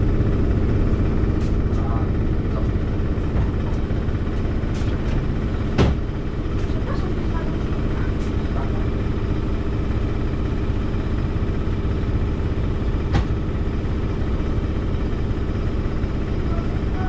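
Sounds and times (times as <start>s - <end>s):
train idling drone: 0.0s - 17.0s.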